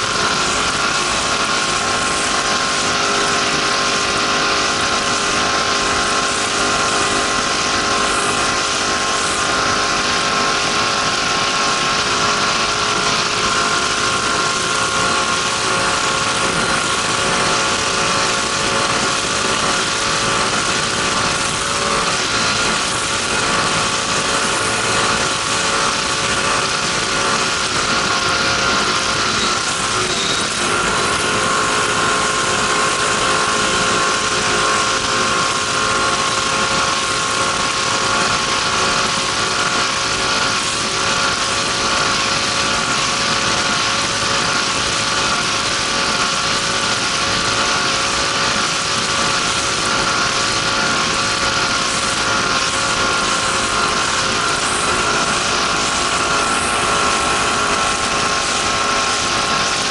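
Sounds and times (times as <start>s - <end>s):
powerboat engine at high revs: 0.0s - 59.9s.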